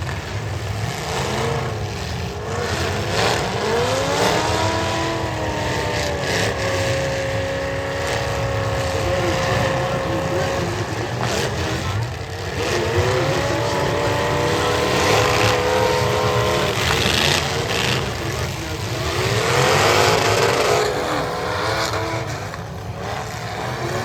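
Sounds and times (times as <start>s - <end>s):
car engines revving high: 0.0s - 24.0s.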